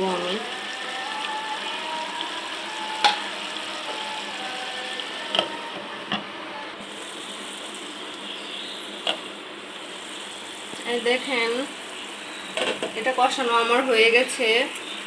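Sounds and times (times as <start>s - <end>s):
curry sizzling in a pan: 0.0s - 6.0s, 6.8s - 15.0s.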